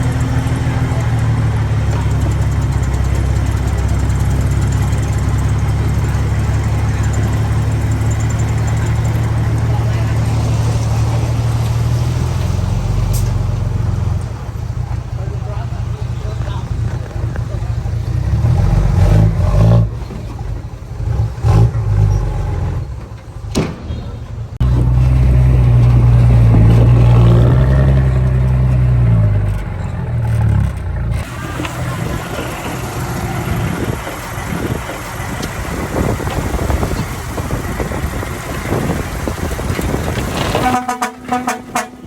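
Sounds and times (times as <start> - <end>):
diesel earthmoving machinery running: 0.0 - 42.0.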